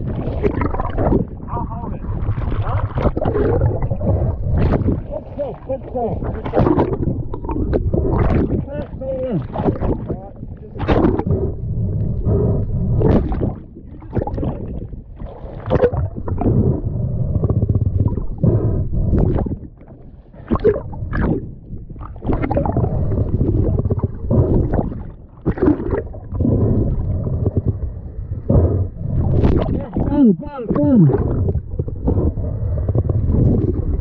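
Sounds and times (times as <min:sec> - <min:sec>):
underwater rumbling and gurgling: 0:00.0 - 0:34.0.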